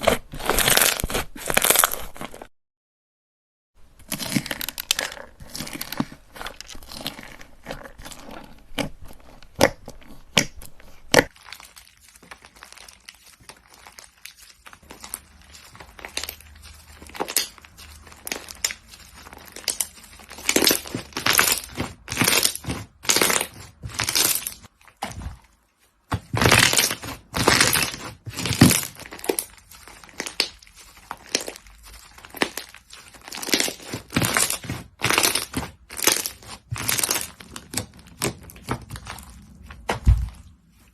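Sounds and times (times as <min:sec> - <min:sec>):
slime crackling and squelching: 0:00.0 - 0:02.5, 0:03.8 - 0:40.9.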